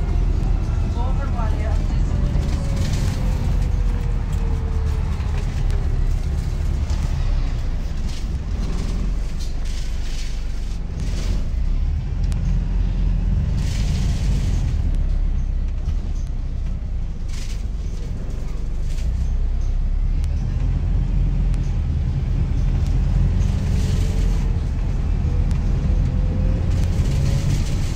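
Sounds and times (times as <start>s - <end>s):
bus engine and road rumble: 0.0s - 27.9s.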